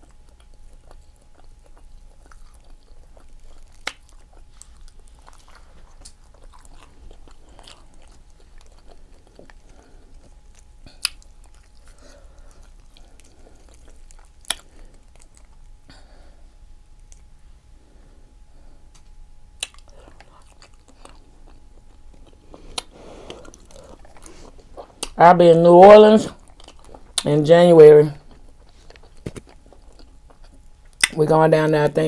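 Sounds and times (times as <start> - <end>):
close chewing mouth sounds: 0.0 - 16.1, 16.9 - 17.3, 18.9 - 25.2, 26.2 - 27.4, 28.1 - 31.2.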